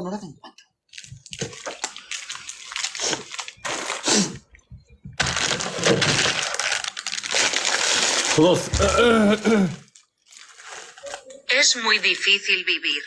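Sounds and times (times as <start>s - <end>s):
plastic snack bag crackling: 0.9s - 4.3s, 5.2s - 12.6s.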